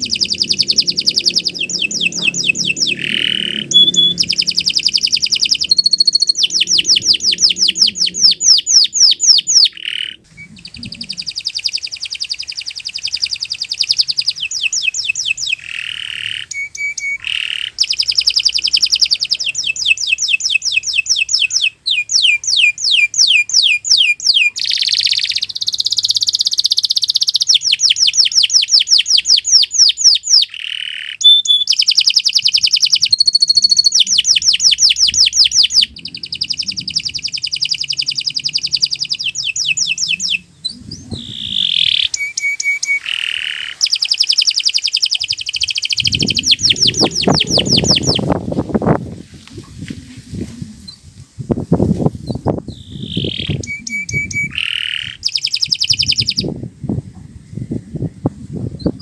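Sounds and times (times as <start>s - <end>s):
canary singing trilled song: 0.0s - 48.4s, 52.2s - 56.6s.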